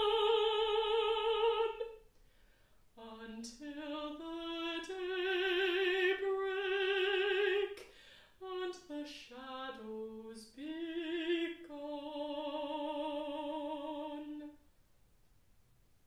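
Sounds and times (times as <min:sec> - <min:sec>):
woman singing with vibrato: 0:00.0 - 0:02.1, 0:03.0 - 0:07.8, 0:08.4 - 0:14.6.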